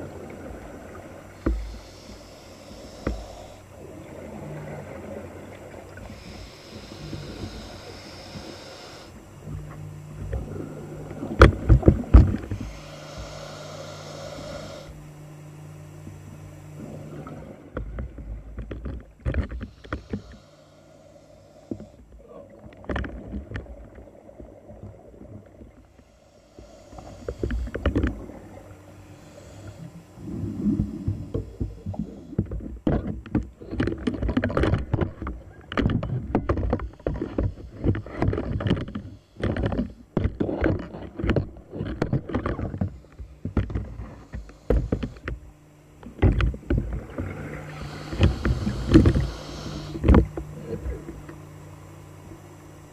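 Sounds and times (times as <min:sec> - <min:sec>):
steady low hum: 0:00.0 - 0:52.9
underwater bubbling: 0:00.0 - 0:52.9.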